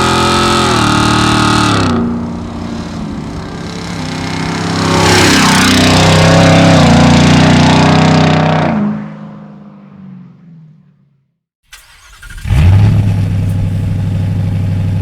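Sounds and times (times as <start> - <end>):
truck engine revving: 0.0 - 9.0, 11.7 - 15.0.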